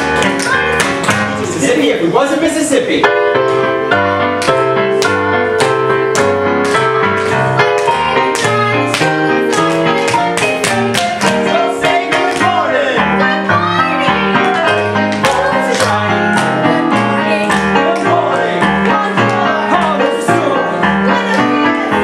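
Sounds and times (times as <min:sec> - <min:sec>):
piano: 0:00.0 - 0:22.0.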